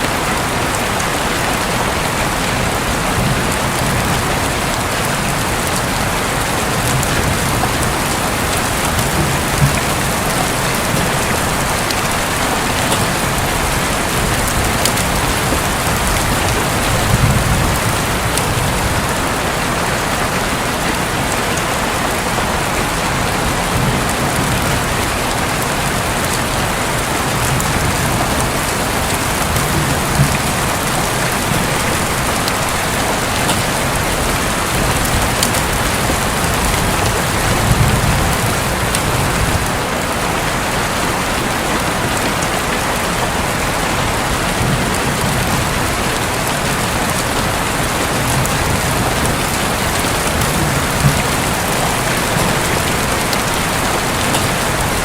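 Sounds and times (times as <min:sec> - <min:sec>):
heavy rain on a roof: 0:00.0 - 0:55.0
distant thunder rumble: 0:00.1 - 0:20.4, 0:22.8 - 0:40.0, 0:44.2 - 0:55.0.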